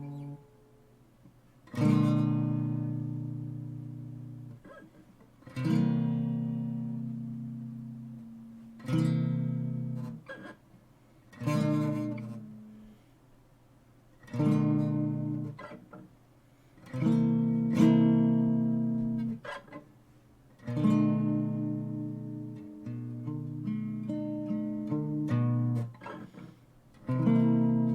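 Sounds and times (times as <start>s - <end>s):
acoustic guitar strummed slowly: 1.7s - 10.6s, 11.3s - 13.1s, 14.2s - 19.8s, 20.6s - 27.9s.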